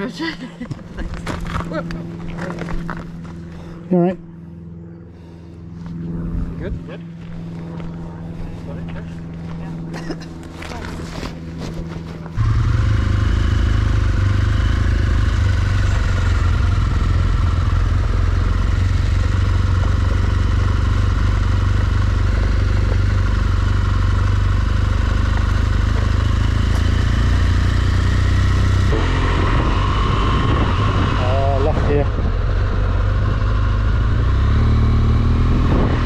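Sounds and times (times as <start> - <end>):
motorcycle engine droning: 0.0 - 36.0
wind and road noise: 0.0 - 36.0.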